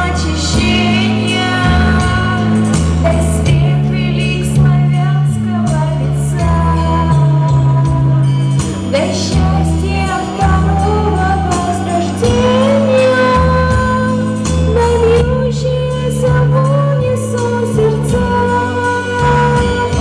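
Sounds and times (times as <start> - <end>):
instrumental accompaniment: 0.0 - 20.0
woman singing: 0.0 - 20.0.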